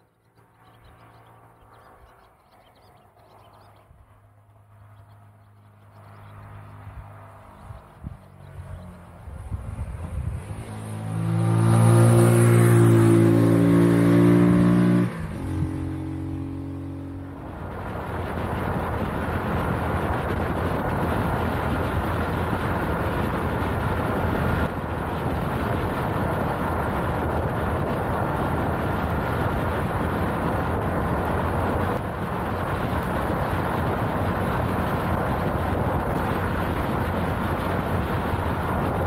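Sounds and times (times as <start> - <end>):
wind rush on microphone: 6.0 - 39.0
motorcycle engine running: 7.6 - 39.0.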